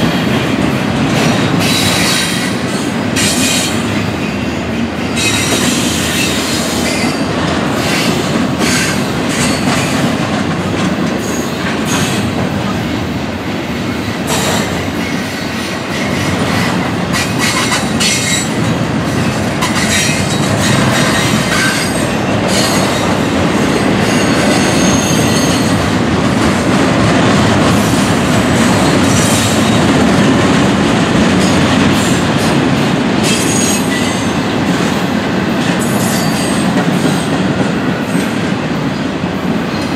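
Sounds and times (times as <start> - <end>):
train clanks and clicks: 0.0 - 39.9
train wheel and rail rumble: 0.0 - 39.9.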